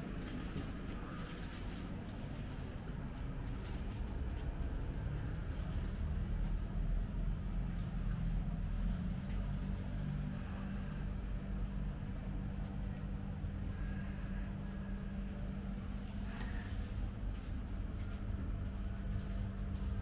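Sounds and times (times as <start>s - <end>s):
indoor shop background rumble: 0.0s - 20.0s.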